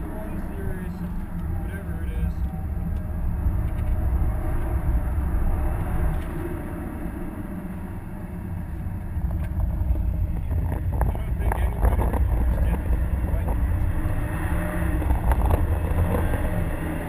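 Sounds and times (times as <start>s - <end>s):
car engine: 0.0s - 17.0s
road and tyre rumble: 0.0s - 17.0s.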